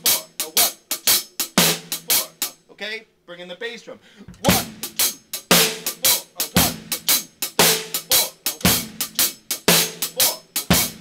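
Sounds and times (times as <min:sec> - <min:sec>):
drum kit shuffle groove: 0:00.0 - 0:02.7, 0:04.3 - 0:11.0.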